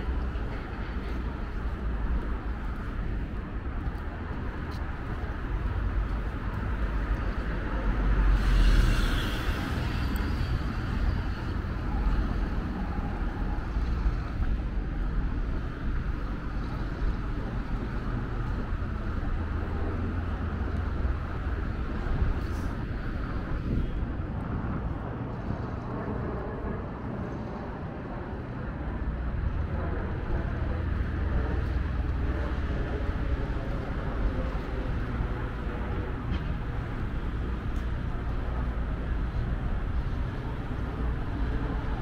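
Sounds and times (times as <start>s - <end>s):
rumble of passing cars: 0.0s - 42.0s.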